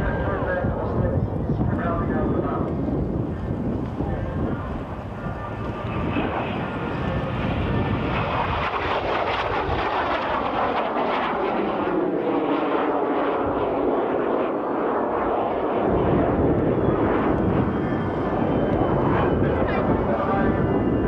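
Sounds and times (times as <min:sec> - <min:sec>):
jet engines whining on a low pass: 0:00.0 - 0:21.0.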